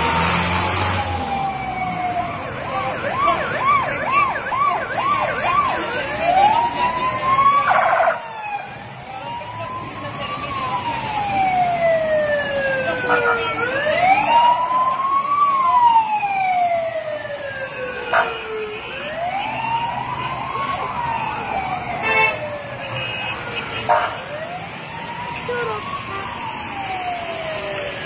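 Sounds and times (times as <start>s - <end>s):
ambulance sirens wailing and yelping: 0.0s - 28.0s.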